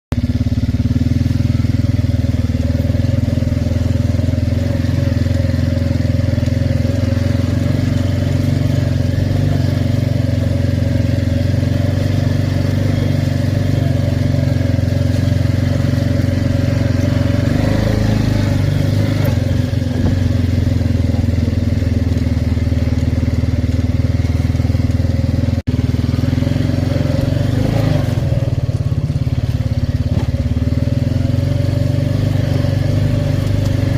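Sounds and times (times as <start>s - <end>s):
atv engine running: 0.1s - 33.9s.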